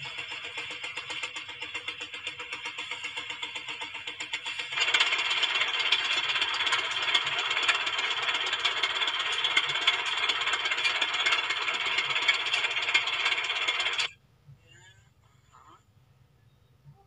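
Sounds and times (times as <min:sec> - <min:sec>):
mechanical rattle with clicks: 0:00.0 - 0:14.1.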